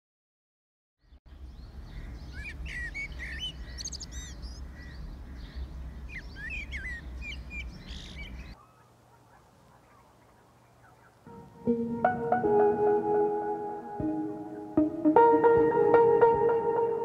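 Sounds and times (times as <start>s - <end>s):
birds chirping: 1.0s - 17.0s.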